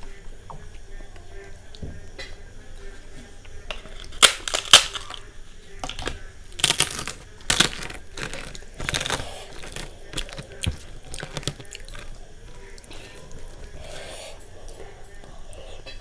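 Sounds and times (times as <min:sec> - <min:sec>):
poppadom crackling and crunching: 0:00.0 - 0:16.0
fingers mixing food on steel plate: 0:01.4 - 0:16.0.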